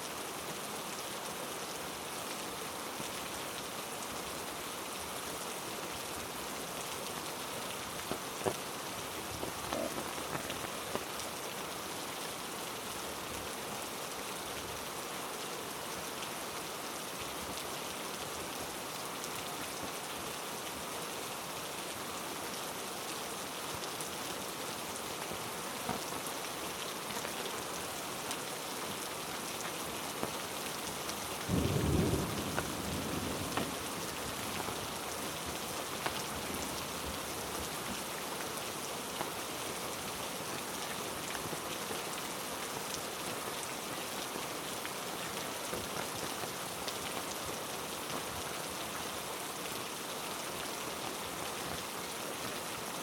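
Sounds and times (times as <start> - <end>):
heavy rain on foliage: 0.0 - 53.0.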